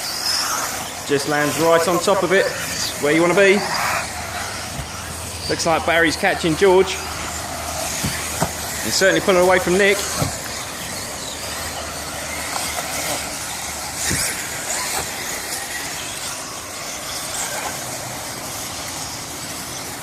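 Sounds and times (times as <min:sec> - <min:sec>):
rc buggy motors whining: 0:00.0 - 0:20.0.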